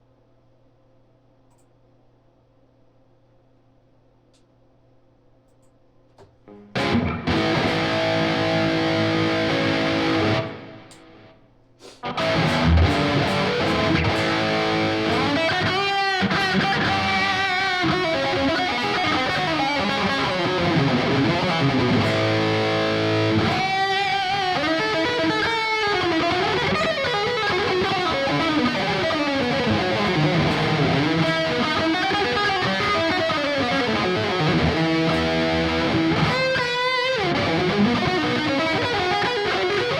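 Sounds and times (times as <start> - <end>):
electric guitar lead lines: 6.5 - 11.4, 12.0 - 39.9
electric guitar chord: 6.7 - 11.3, 12.0 - 39.9.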